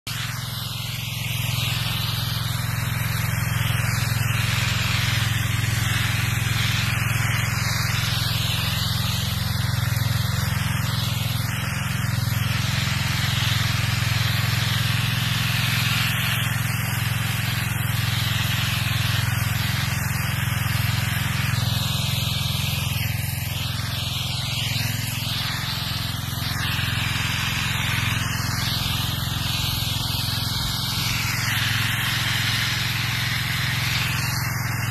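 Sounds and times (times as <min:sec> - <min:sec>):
pressure washer engine running: 0:00.0 - 0:34.9.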